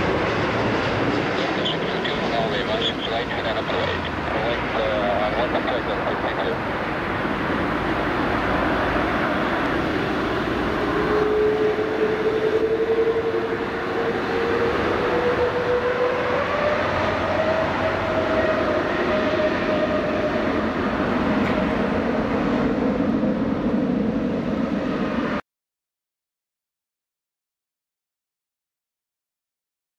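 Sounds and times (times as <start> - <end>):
jet engines reverse thrust rumble: 0.0 - 25.4.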